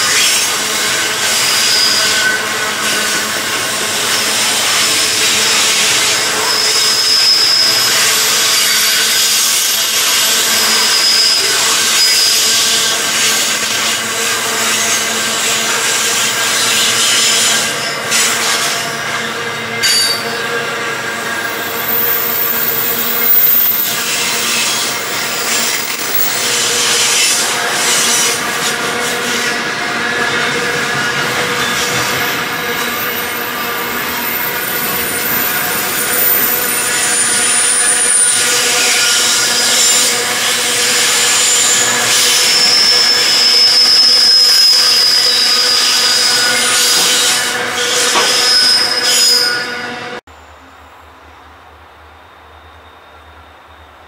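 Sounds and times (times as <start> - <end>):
high-pitched wheel squeals: 0.0 - 50.6.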